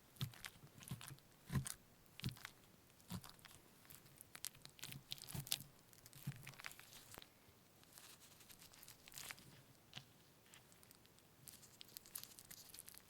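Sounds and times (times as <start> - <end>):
crunchy food preparation handling: 0.0 - 13.0.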